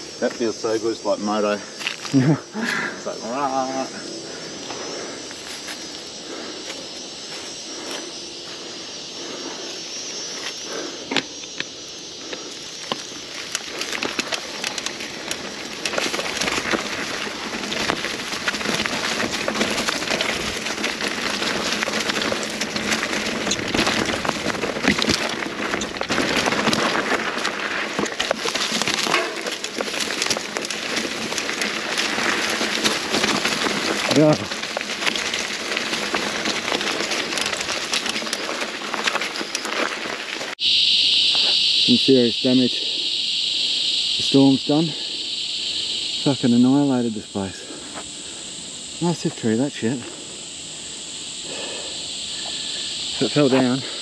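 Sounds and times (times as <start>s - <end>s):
tyres crunching over leaves and twigs: 0.0s - 42.6s, 43.2s - 54.0s
bike rattling: 0.0s - 54.0s.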